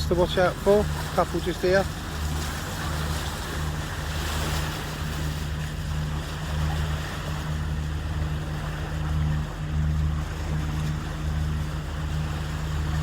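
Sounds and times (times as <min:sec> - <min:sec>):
boat engine drone: 0:00.0 - 0:13.0
water rushing along hulls: 0:00.0 - 0:13.0.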